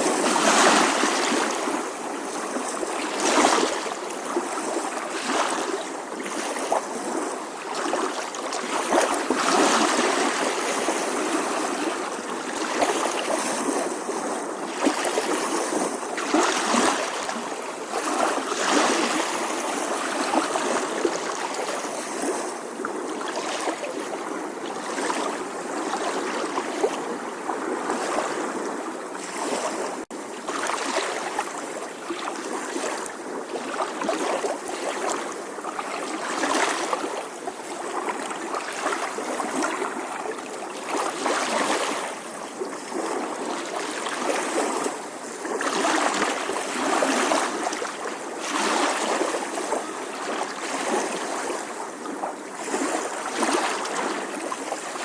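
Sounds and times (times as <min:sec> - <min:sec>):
sea waves lapping on shore: 0:00.0 - 0:55.0
water gurgling and trickling: 0:00.0 - 0:55.0.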